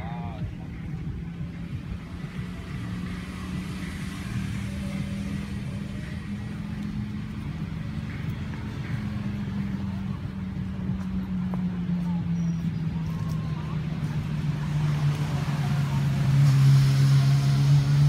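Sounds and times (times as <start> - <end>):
low engine hum: 0.0 - 18.0
outdoor background noise: 0.0 - 18.0.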